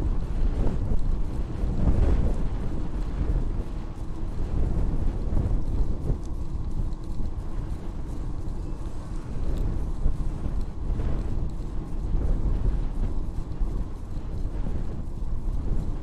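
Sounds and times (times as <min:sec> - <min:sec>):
bicycle tyres rolling on asphalt: 0:00.0 - 0:16.0
wind buffeting microphone: 0:00.0 - 0:16.0.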